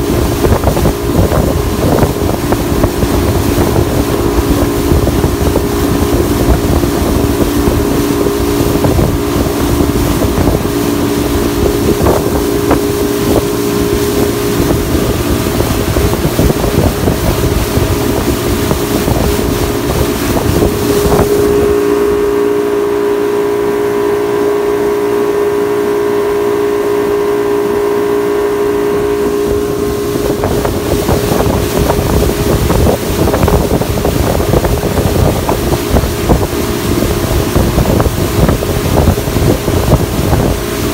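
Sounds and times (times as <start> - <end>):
boat engine humming: 0.0 - 40.9
water rushing past hull: 0.0 - 40.9
wind buffeting microphone: 0.0 - 40.9.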